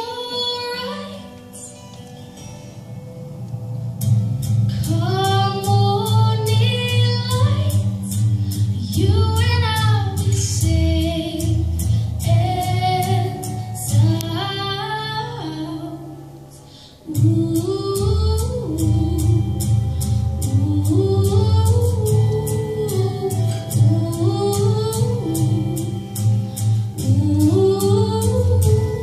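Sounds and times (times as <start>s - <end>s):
woman singing into a microphone: 0.0s - 2.0s, 4.7s - 29.0s
low bass: 2.8s - 29.0s.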